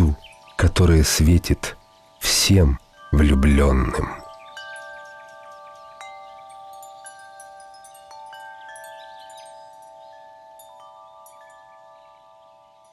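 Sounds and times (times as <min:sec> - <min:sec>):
chime-like ringing tones: 0:00.0 - 0:12.9
light high tinkles: 0:00.0 - 0:12.9.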